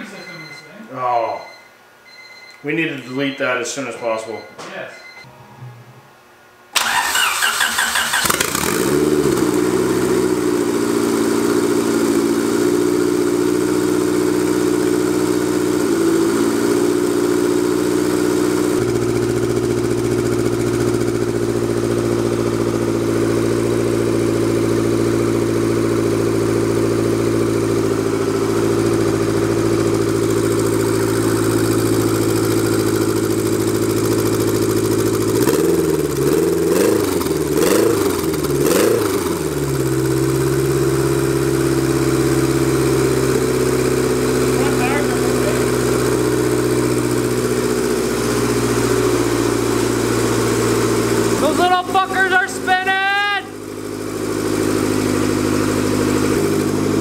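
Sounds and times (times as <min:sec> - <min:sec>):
car engine idling and revving: 0:06.8 - 0:57.0.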